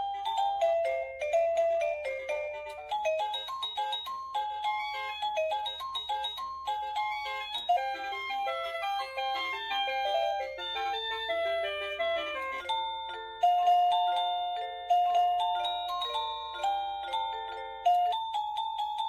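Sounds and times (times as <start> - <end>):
electronic doorbell chime melody: 0.0 - 19.0.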